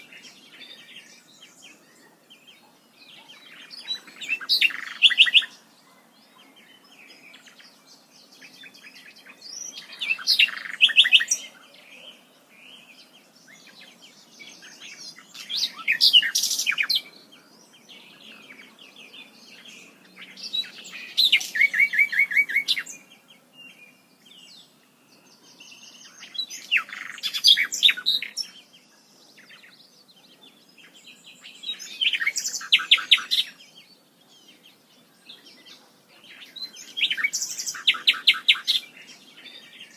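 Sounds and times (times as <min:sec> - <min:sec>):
bird singing trilled phrases: 0:00.0 - 0:39.9
faint bird chirps: 0:00.0 - 0:39.9.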